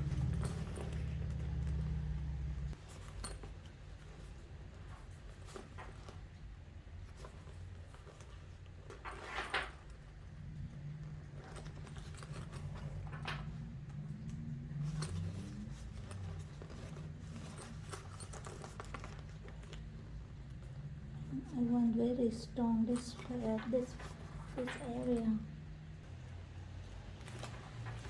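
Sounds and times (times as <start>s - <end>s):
handling clicks and rustles: 0.0s - 28.0s
low steady hum: 0.0s - 28.0s.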